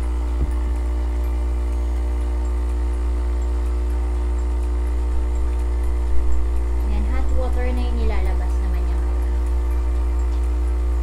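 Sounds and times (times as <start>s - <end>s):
pump humming: 0.0s - 11.0s.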